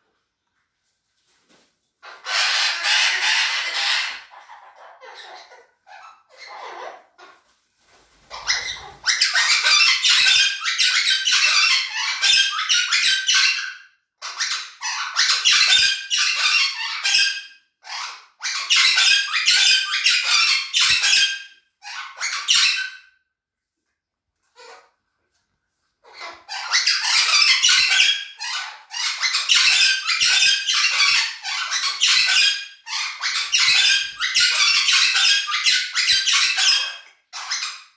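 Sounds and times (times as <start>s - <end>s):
parrots calling harshly: 2.0s - 7.4s, 8.2s - 23.0s, 24.6s - 24.9s, 26.0s - 37.9s.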